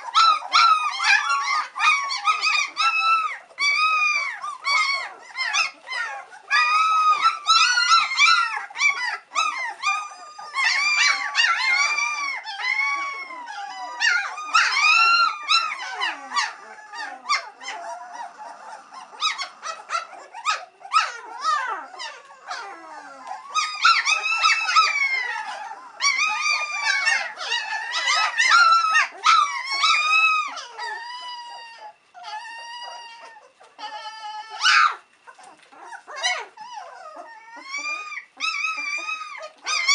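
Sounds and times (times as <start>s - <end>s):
puppies whining and squealing: 0.0s - 39.9s.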